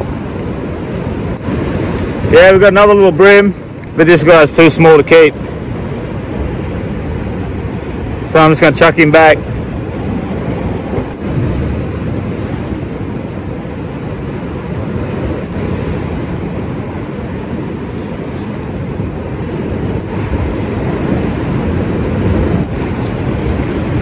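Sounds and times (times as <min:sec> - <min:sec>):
ocean surf: 0:00.0 - 0:24.0
wind noise on microphone: 0:00.0 - 0:24.0.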